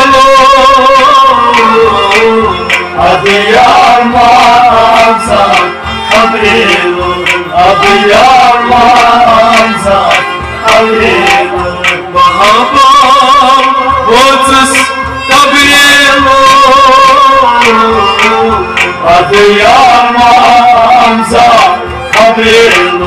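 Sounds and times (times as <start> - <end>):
harmonium: 0.0 - 23.0
people singing: 0.0 - 23.0.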